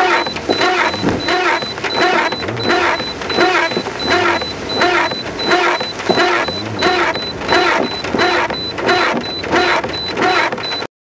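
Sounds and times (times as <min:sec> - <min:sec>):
windscreen wipers swishing: 0:00.0 - 0:10.9.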